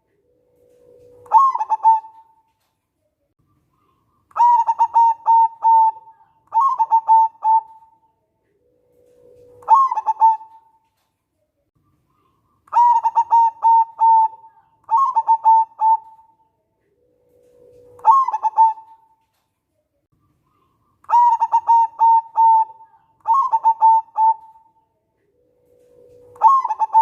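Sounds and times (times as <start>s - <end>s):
dove cooing: 0.0s - 2.5s, 3.8s - 10.9s, 12.2s - 19.2s, 20.5s - 27.0s.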